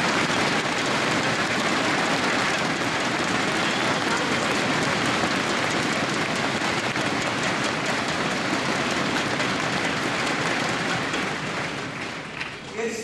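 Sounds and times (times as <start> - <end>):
large crowd applauding: 0.0 - 13.0.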